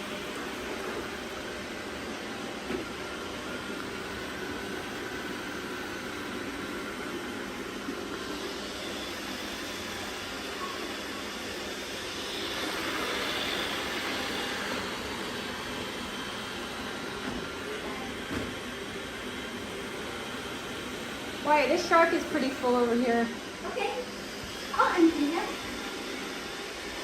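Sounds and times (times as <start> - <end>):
robot vacuums humming: 0.0 - 27.0.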